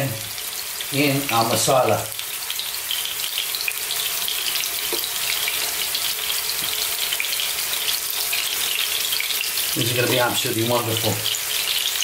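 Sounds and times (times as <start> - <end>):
meatballs sizzling in frying pan: 0.0 - 12.0.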